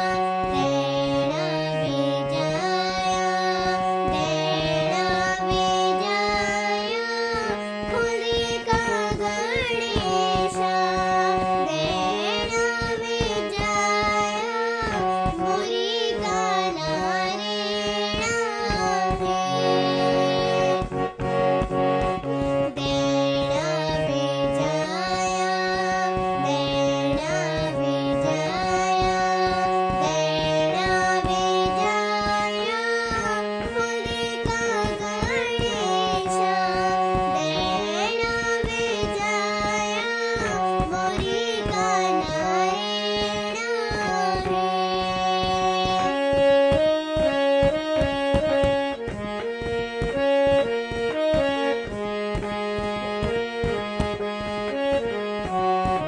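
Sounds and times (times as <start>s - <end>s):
girl singing devotional song: 0.0s - 56.0s
harmonium: 0.0s - 56.0s.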